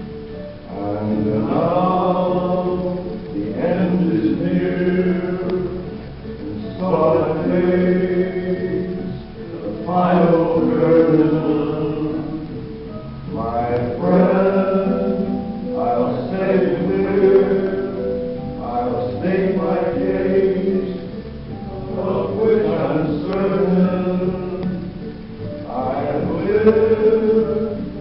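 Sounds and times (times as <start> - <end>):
group of men singing: 0.7 - 28.0.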